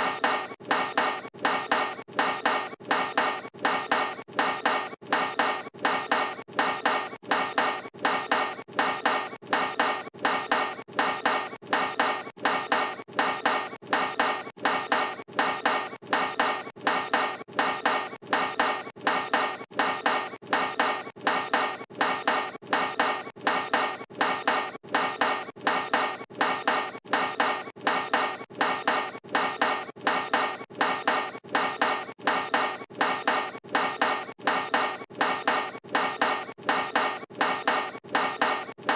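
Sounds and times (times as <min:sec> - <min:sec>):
basketball clanging off metal rim: 0:00.0 - 0:38.9.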